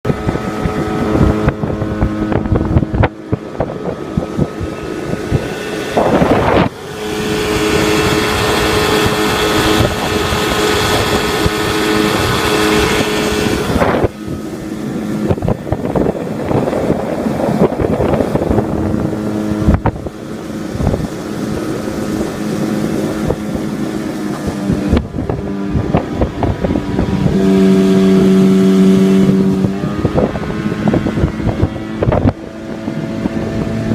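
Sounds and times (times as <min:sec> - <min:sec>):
outboard motor running: 0:00.0 - 0:33.9
wind noise on microphone: 0:00.0 - 0:33.9.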